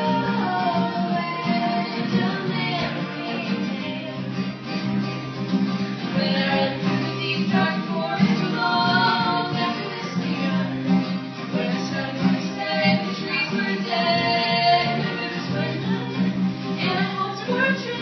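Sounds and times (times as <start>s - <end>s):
woman singing: 0.0s - 4.6s, 6.0s - 18.0s
acoustic guitar playing: 0.0s - 18.0s.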